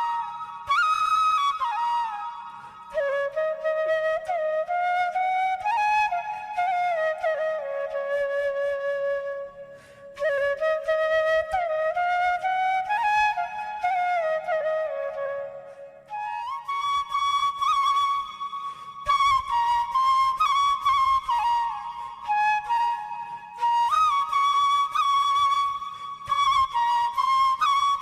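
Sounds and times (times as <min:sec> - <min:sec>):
solo flute melody: 0:00.0 - 0:28.0.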